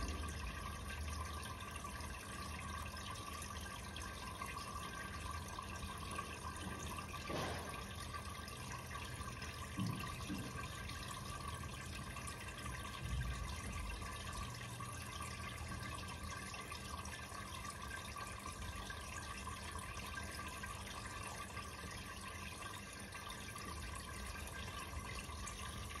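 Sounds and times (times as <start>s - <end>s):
air stones bubbling in water: 0.0s - 26.0s
low steady hum: 0.0s - 26.0s.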